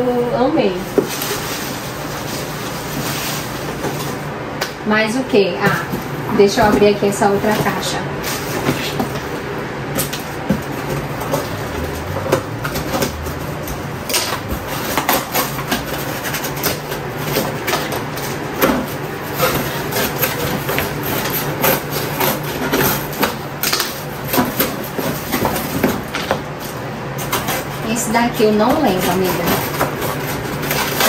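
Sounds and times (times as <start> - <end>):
steady low hum: 0.0 - 31.0
cardboard flaps scraping: 0.6 - 4.4, 5.7 - 31.0
packaging rustling and crinkling: 0.6 - 4.4, 5.7 - 31.0.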